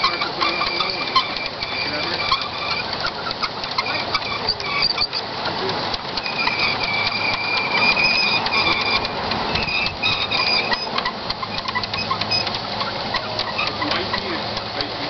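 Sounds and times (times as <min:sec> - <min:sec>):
high-pitched wheel squeals: 0:00.0 - 0:14.8
wheels clicking over rail joints: 0:00.0 - 0:15.0.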